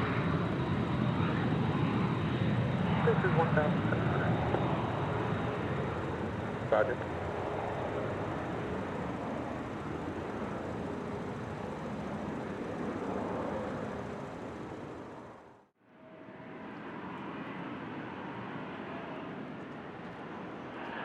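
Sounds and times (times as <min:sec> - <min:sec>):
jet aircraft noise: 0:00.0 - 0:15.7, 0:16.6 - 0:21.0.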